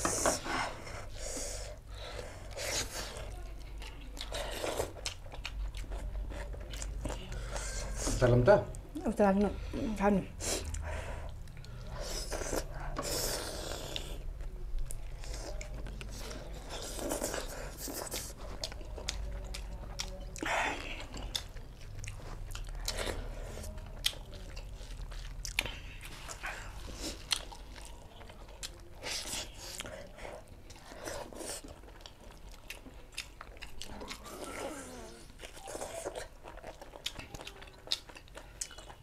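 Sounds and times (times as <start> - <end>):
chewing and mouth smacks: 2.4 - 7.6, 10.6 - 39.0.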